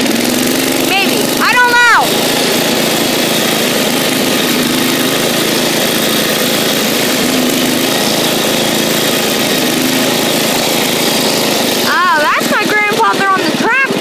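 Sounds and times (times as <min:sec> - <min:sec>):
riding tractor engine running: 0:00.0 - 0:14.0.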